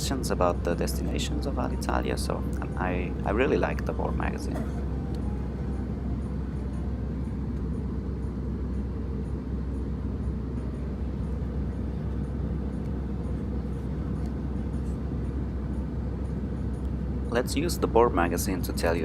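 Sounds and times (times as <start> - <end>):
airplane cabin engine roar: 0.0 - 19.0.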